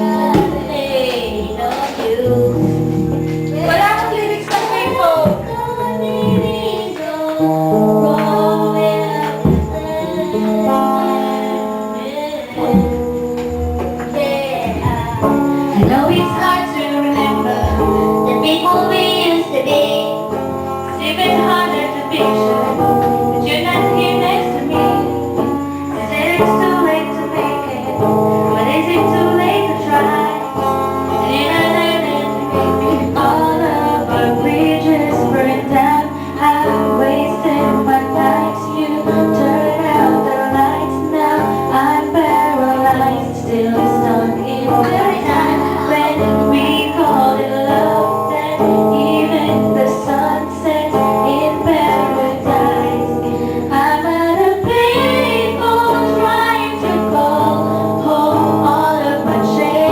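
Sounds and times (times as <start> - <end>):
instrumental backing: 0.0 - 59.9
woman singing: 0.0 - 59.9.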